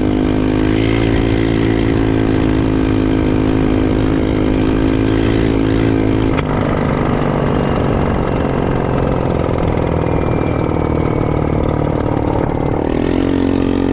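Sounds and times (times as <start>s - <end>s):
atv engine running: 0.0s - 13.9s.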